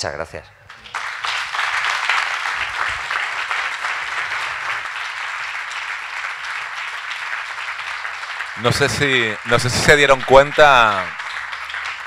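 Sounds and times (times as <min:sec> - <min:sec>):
audience applauding: 0:00.7 - 0:12.0.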